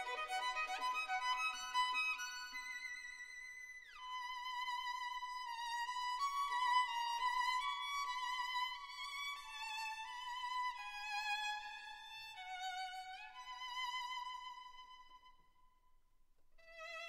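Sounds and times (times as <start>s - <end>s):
slow violin melody: 0.0s - 15.3s, 16.6s - 17.0s.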